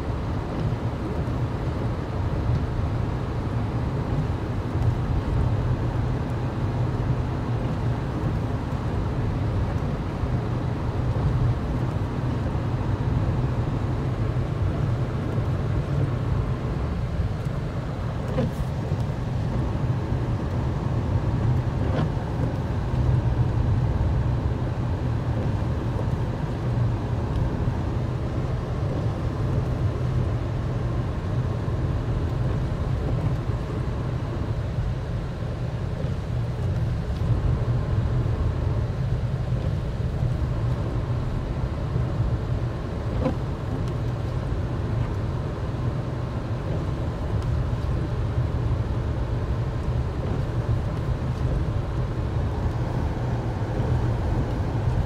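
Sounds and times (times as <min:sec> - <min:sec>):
car engine rumble: 0:00.0 - 0:55.0
tyres on snowy road: 0:00.0 - 0:55.0.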